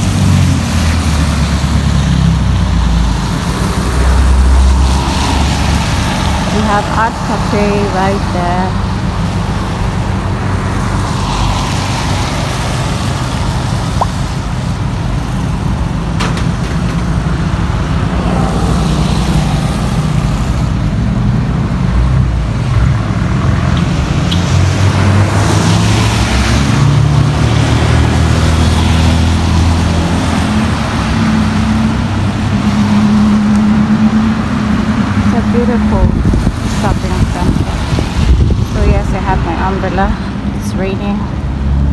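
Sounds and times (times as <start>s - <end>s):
cars passing with tyre hiss: 0.0s - 41.9s
vehicle engines rumbling: 0.0s - 41.9s.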